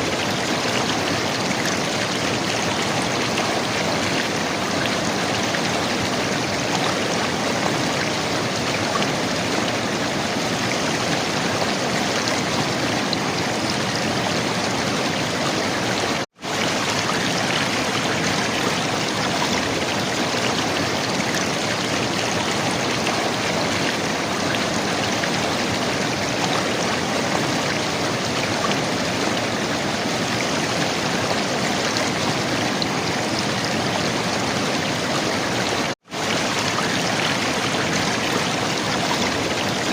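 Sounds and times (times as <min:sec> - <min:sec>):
river water gurgling: 0:00.0 - 0:39.9.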